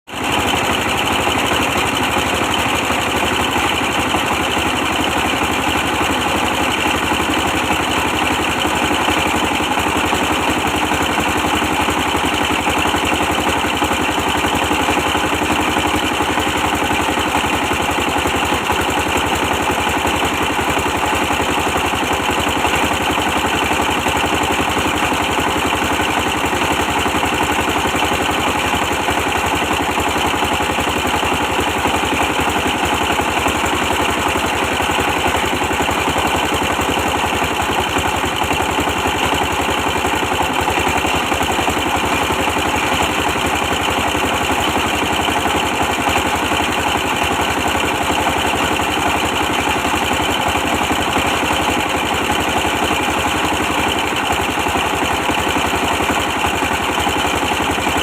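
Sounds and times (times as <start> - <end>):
diesel engine running steadily: 0.1 - 58.0.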